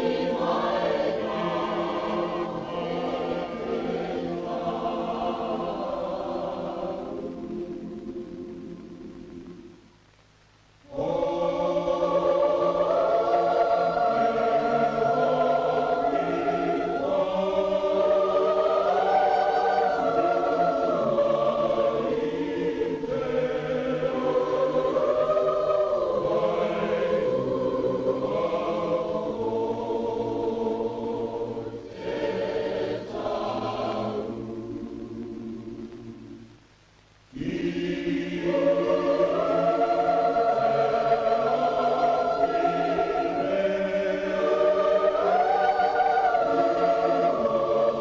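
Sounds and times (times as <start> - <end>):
choir singing in harmony: 0.0 - 9.7, 10.8 - 36.5, 37.3 - 48.0.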